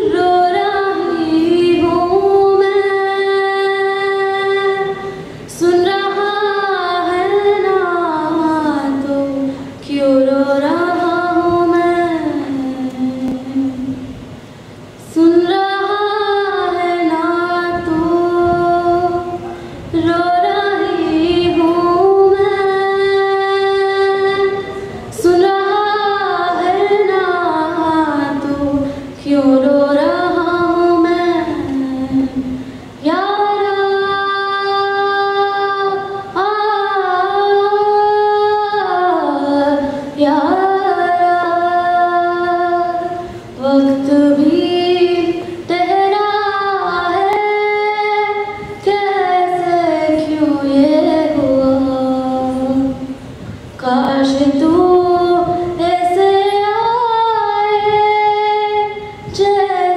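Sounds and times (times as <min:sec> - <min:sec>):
woman singing: 0:00.0 - 0:14.1, 0:15.0 - 0:53.2, 0:53.8 - 0:59.9.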